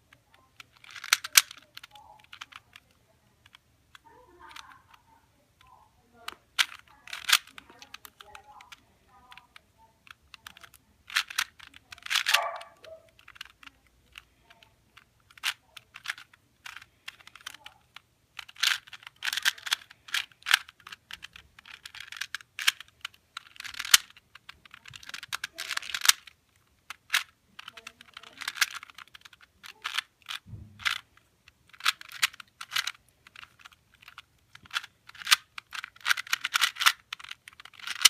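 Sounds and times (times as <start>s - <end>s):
plastic puzzle cube clicking: 0.1s - 5.0s, 5.6s - 38.0s.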